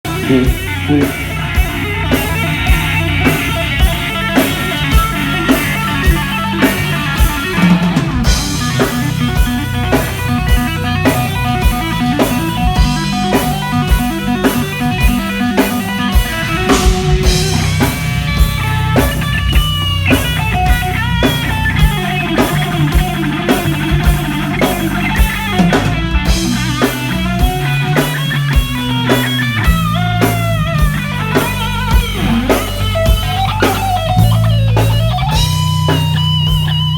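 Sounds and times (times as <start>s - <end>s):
bass guitar: 0.0s - 36.9s
distorted electric guitar: 0.0s - 36.9s
drum kit beat: 0.0s - 36.9s.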